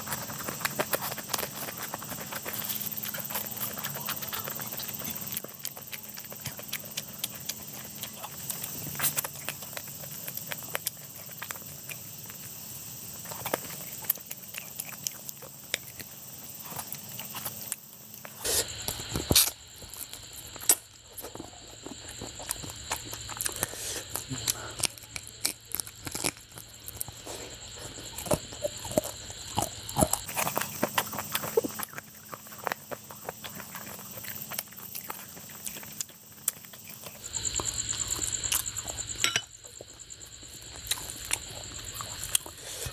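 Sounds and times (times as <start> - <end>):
wet chewing and lip smacking: 0.0 - 42.9.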